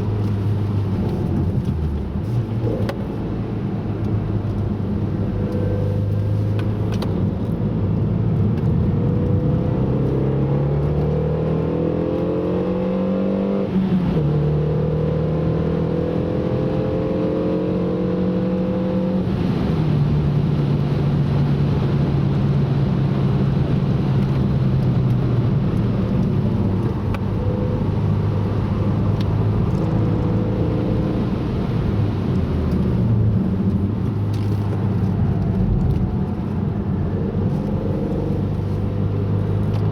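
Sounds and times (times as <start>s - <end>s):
car engine revving: 0.0s - 39.9s
tyre and road noise: 0.0s - 39.9s.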